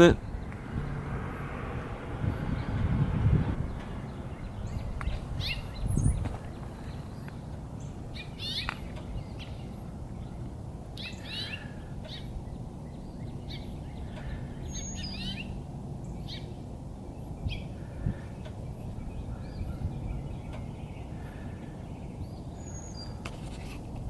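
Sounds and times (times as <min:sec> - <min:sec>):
low background rumble: 0:00.0 - 0:23.2
wild birds chirping: 0:00.0 - 0:24.0.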